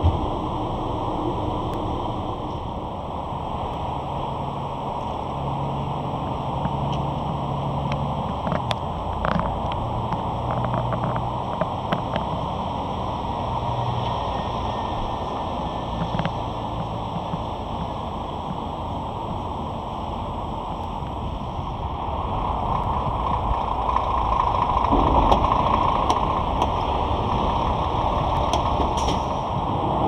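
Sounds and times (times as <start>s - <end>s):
truck engines running: 0.0s - 30.0s
wind rumbling: 0.0s - 30.0s.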